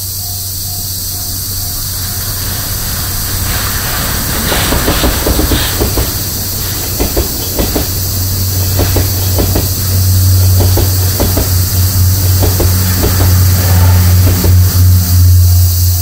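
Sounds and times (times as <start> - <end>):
cicadas droning: 0.0 - 16.0
heavy train rumble: 0.0 - 16.0
train wheels clacking over rail joints: 0.4 - 15.6.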